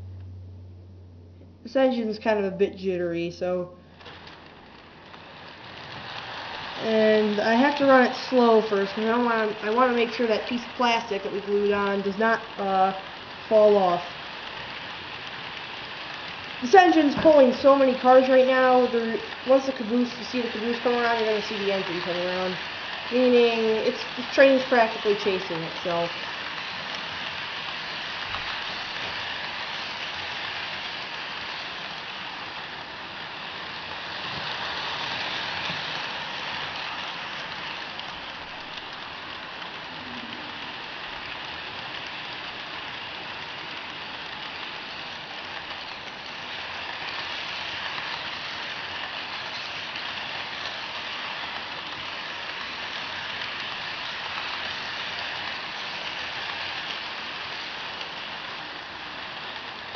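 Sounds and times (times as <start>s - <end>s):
model train rolling on track: 1.7s - 59.9s.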